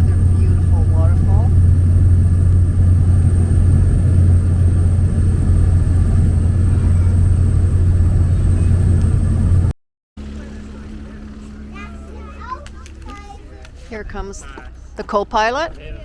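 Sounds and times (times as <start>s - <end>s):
small plane engine and propeller drone: 0.0s - 15.0s.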